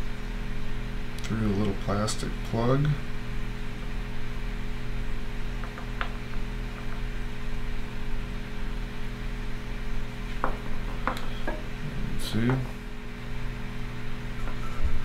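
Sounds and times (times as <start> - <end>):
low electrical hum and hiss: 0.0 - 15.0.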